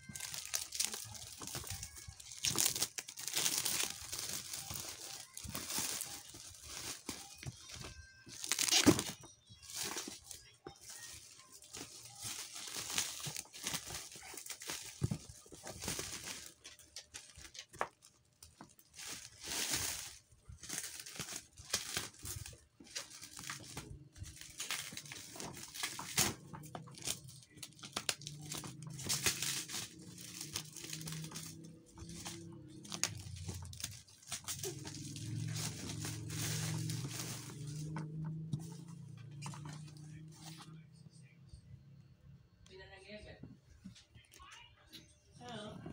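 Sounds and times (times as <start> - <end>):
plastic wrapping crinkling: 0.0 - 40.8.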